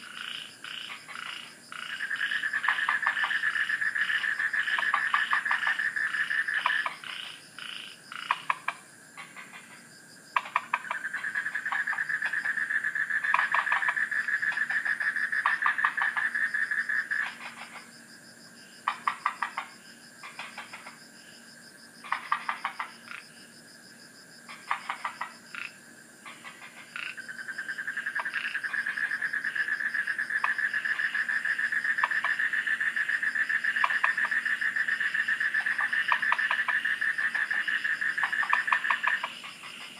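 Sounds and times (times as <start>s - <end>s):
frogs rattling calls: 0.0s - 18.0s, 18.8s - 21.0s, 22.0s - 23.4s, 24.5s - 39.9s
frogs trilling: 0.0s - 39.9s.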